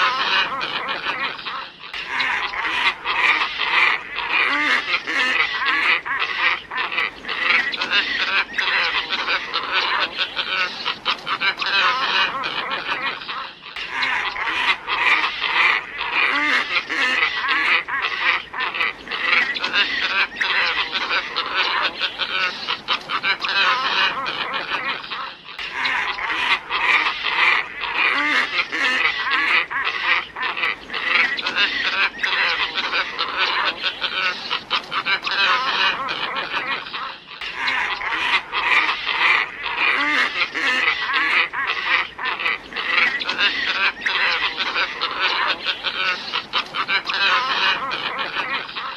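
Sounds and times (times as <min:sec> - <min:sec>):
ibis flock croaking: 0:00.0 - 0:48.9.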